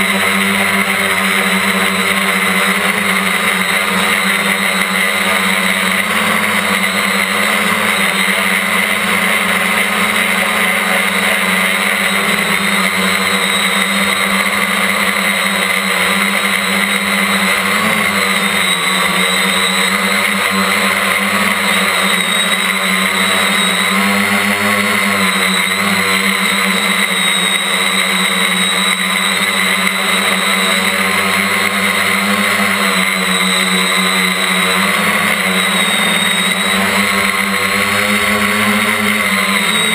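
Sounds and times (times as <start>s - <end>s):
drone motors droning: 0.0s - 39.9s.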